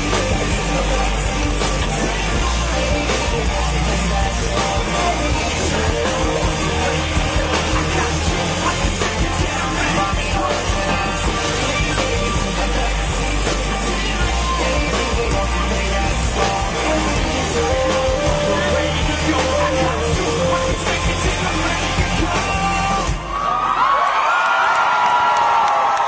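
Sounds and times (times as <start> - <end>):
live rock band playing: 0.0 - 23.3
pounding bass: 0.0 - 23.8.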